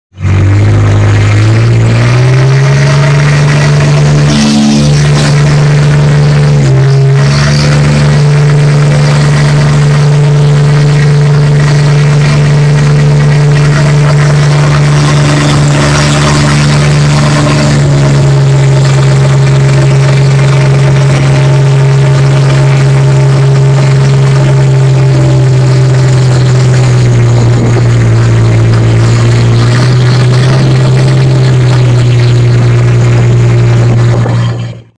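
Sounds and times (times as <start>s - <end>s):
small boat engine running: 0.1s - 34.9s.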